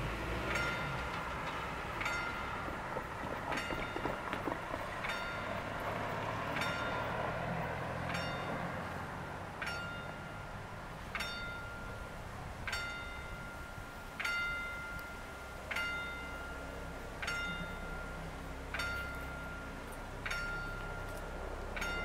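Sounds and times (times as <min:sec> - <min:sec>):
train rumble: 0:00.0 - 0:22.0
level crossing warning bell ringing: 0:00.4 - 0:04.4, 0:05.0 - 0:09.0, 0:09.6 - 0:22.0.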